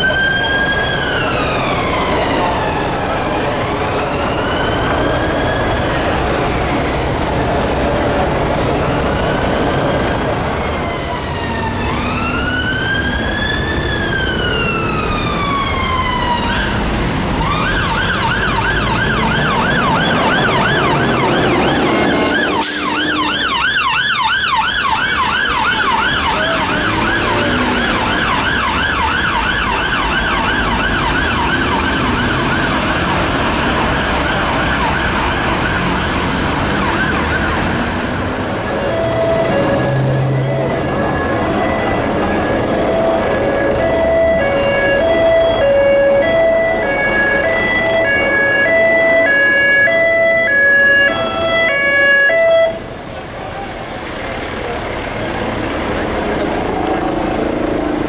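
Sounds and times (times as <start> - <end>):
ambulance siren: 0.0 - 58.0
city traffic: 0.0 - 58.0.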